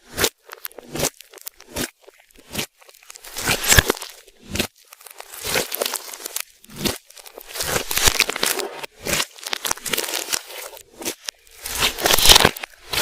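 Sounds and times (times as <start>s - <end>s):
slime squeezed by hand: 0.0s - 13.0s.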